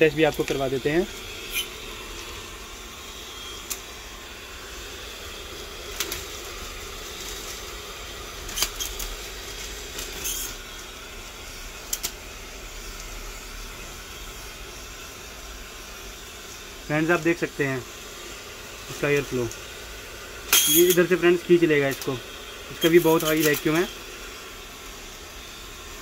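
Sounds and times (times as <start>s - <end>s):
blower fan hissing: 0.0s - 26.0s.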